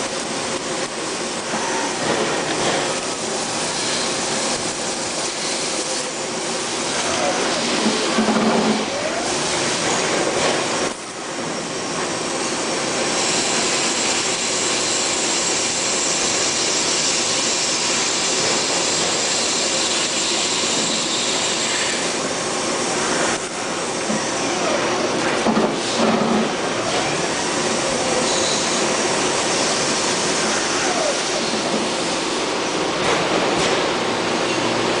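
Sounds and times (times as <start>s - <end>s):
lathe running with high whine: 0.0s - 33.0s.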